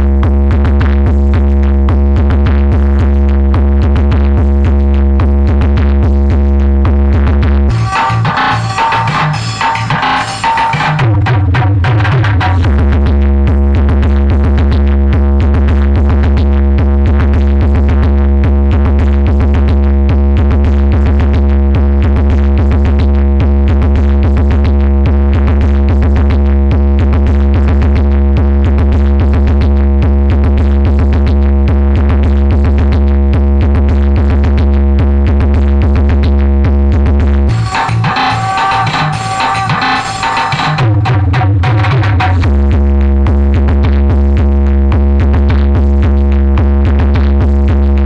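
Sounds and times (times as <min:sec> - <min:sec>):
deep bass note: 0:00.0 - 0:10.1, 0:11.0 - 0:39.8, 0:40.8 - 0:48.0
fast drum-machine beat: 0:00.0 - 0:48.0.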